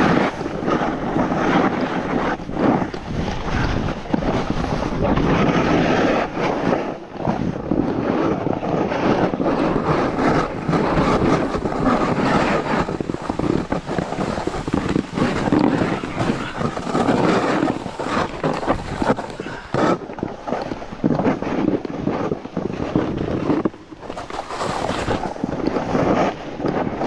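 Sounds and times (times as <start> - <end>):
snowboard sliding over snow: 0.0 - 27.0
wind buffeting microphone: 0.0 - 27.0.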